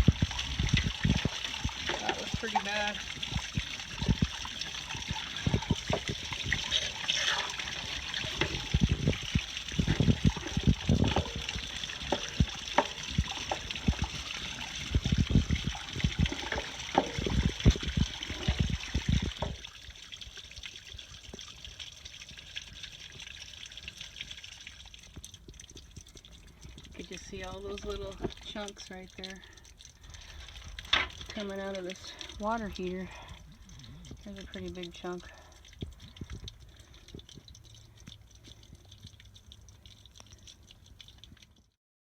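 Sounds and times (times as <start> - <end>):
water spraying and splashing: 0.0 - 41.8
water trickling: 0.0 - 41.8.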